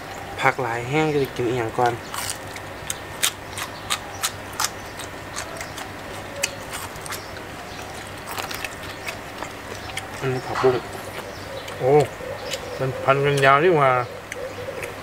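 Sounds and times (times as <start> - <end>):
chewing crunchy food: 1.1 - 15.0.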